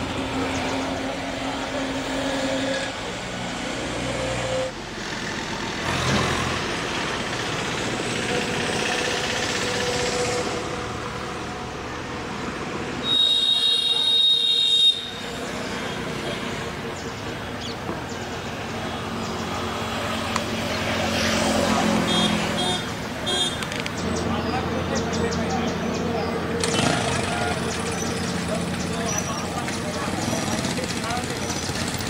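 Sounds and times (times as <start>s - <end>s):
trucks and buses: 0.0s - 32.0s.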